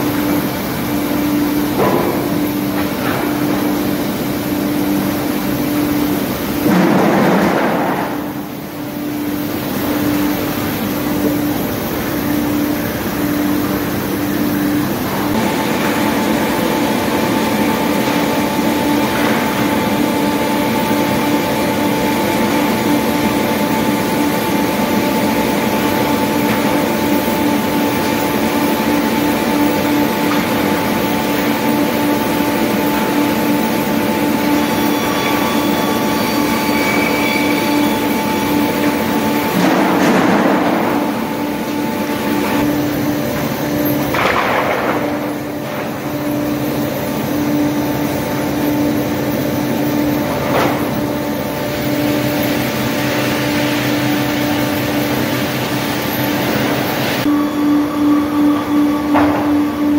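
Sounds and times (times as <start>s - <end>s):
sawmill machinery hum and clatter: 0.0s - 59.9s.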